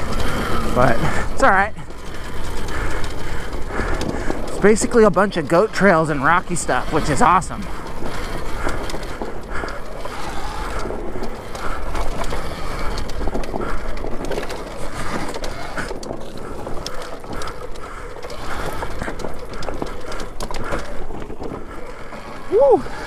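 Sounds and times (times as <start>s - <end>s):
dirt bike rattling over rocks: 0.0s - 23.0s.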